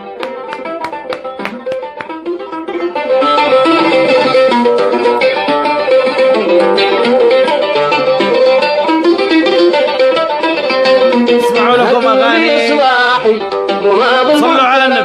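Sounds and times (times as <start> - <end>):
plucked strings music: 0.0 - 15.0.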